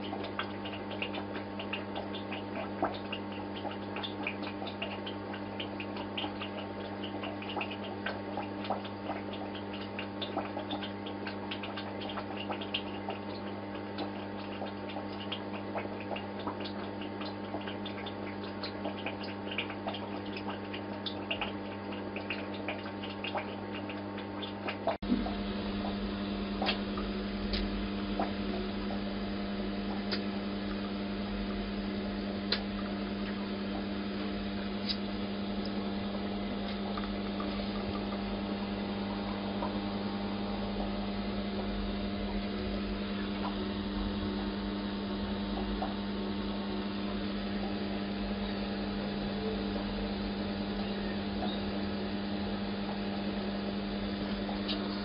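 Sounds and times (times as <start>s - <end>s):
aquarium pump humming: 0.0s - 55.0s
water ticks and drips: 0.0s - 55.0s.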